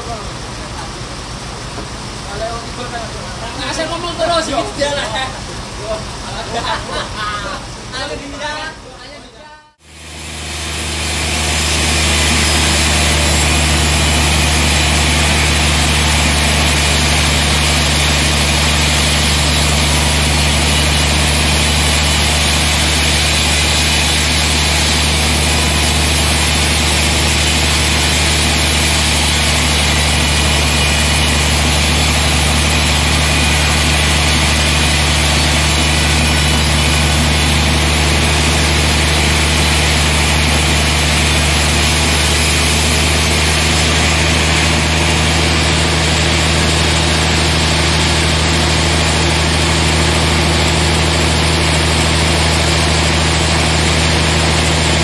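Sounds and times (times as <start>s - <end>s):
band saw cutting log: 9.8s - 55.0s.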